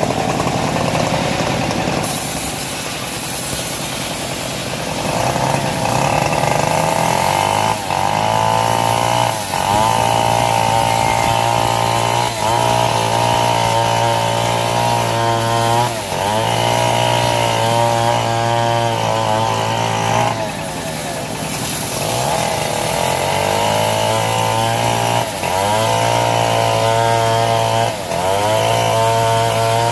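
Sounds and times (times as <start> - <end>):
bandsaw motor running under load: 0.0 - 29.9
saw blade whining through wood: 0.0 - 29.9.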